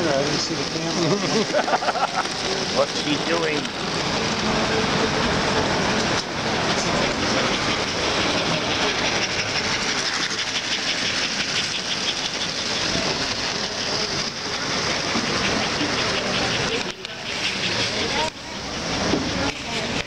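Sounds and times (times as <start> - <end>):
model train wheels clickety-clack: 0.0 - 20.0.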